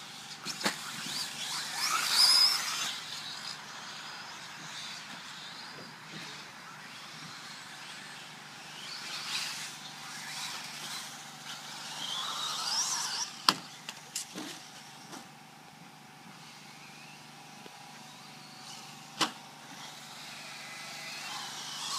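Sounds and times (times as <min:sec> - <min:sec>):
electric motor whine: 0:00.0 - 0:21.9.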